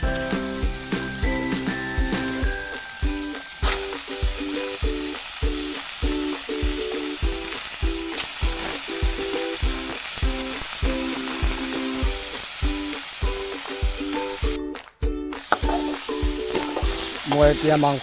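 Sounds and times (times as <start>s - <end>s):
pork sizzling in a pan: 0.0s - 14.7s, 15.3s - 18.0s
background music with steady beat: 0.0s - 18.0s.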